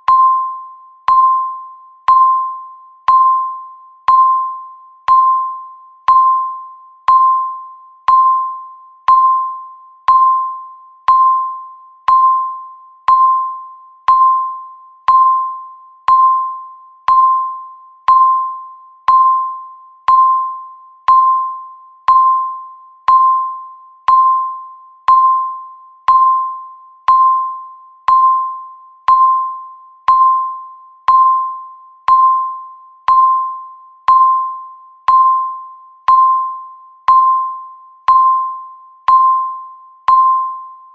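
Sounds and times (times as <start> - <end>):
electronic timer ding: 0.0 - 40.9.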